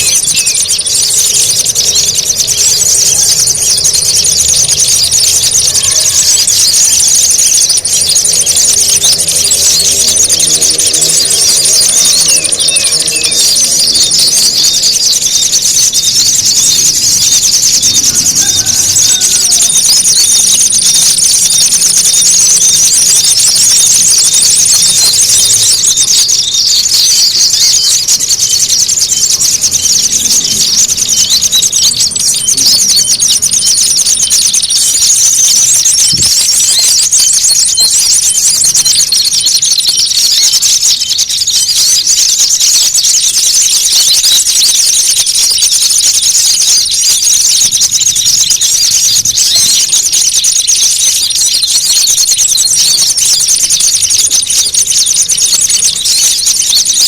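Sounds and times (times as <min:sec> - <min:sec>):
small birds chattering calls: 0:00.0 - 0:57.0.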